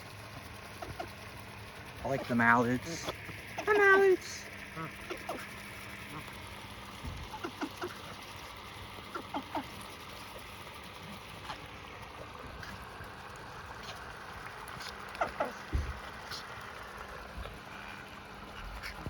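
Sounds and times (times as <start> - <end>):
ducks calling softly: 0.6 - 19.0.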